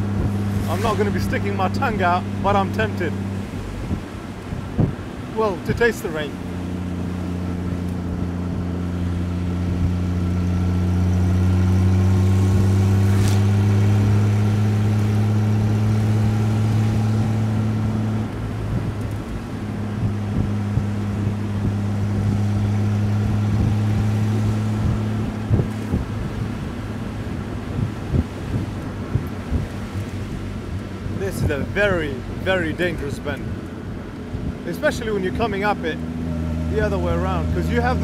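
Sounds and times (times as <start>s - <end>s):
car engine pulling: 0.0s - 38.0s.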